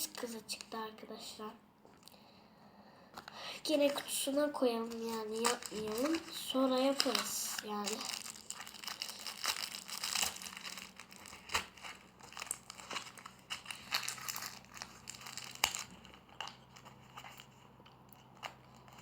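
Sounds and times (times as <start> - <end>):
plastic packaging crinkling: 0.0 - 0.8, 3.6 - 19.0.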